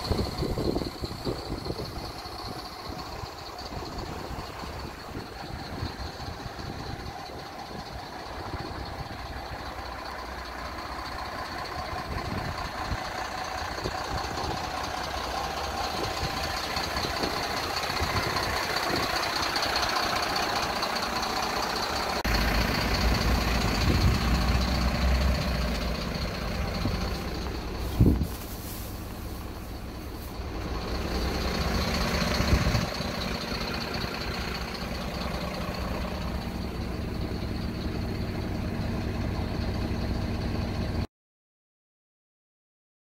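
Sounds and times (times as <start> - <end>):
truck engine idling: 0.0 - 41.1.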